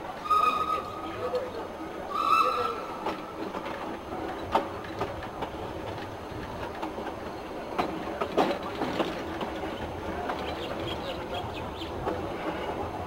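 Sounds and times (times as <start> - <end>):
train wheels rumbling on rails: 0.0 - 13.0
wheels clicking over rail joints: 0.2 - 13.0.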